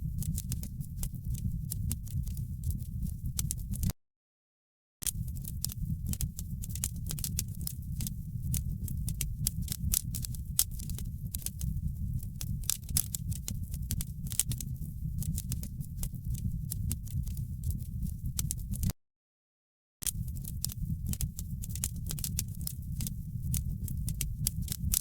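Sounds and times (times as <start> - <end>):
wood fire crackling and popping: 0.1 - 2.8, 5.1 - 18.9, 20.0 - 25.0.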